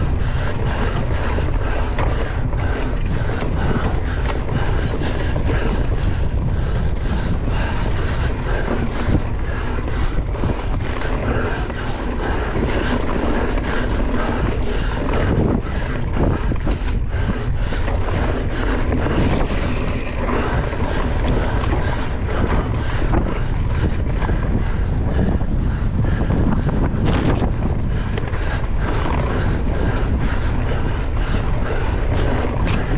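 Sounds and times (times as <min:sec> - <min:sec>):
bike rattling and knocking: 0:00.0 - 0:32.9
bike tyre noise: 0:00.0 - 0:32.9
wind buffeting microphone: 0:00.0 - 0:32.9.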